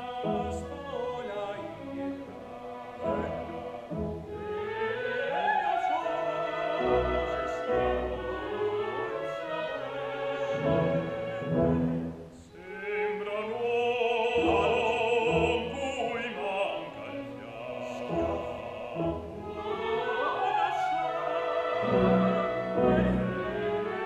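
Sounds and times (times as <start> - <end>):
opera singing: 0.0 - 24.0
orchestral strings: 0.0 - 24.0.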